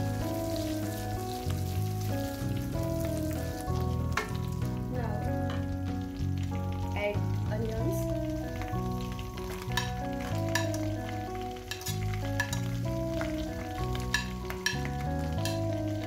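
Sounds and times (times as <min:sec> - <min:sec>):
background music with held notes: 0:00.0 - 0:16.0
onions sizzling in butter: 0:00.0 - 0:16.0.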